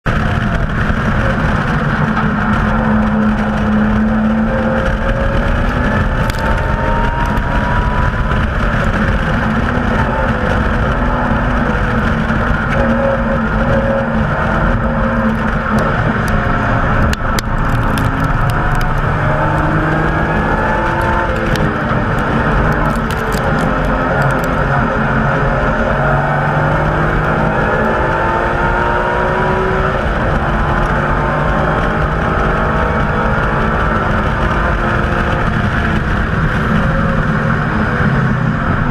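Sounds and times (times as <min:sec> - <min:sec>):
car engine revving: 0:00.0 - 0:38.9
road and wind noise: 0:00.0 - 0:38.9.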